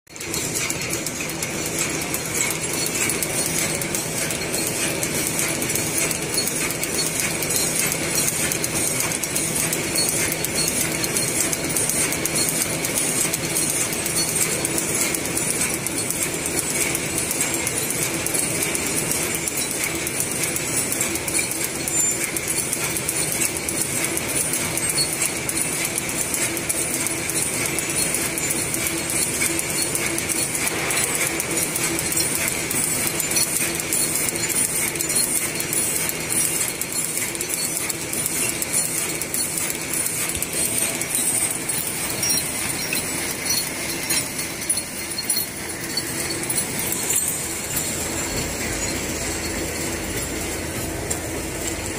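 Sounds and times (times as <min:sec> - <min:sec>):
packing machine clattering: 0:00.1 - 0:51.9.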